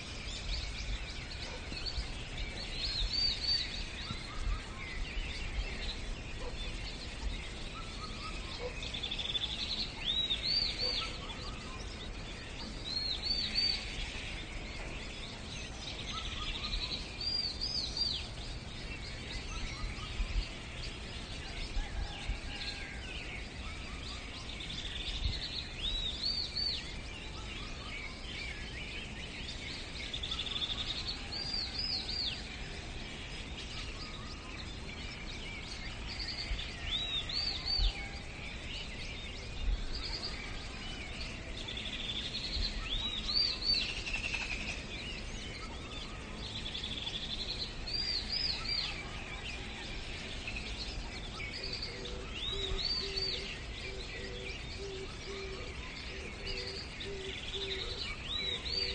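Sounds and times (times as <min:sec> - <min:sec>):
background hiss: 0:00.0 - 0:58.9
birdsong with high looping notes: 0:00.0 - 0:58.9.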